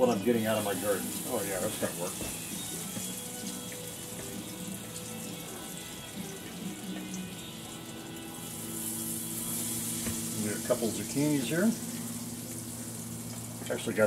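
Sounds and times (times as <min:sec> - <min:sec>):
battered food frying in oil: 0:00.0 - 0:14.0.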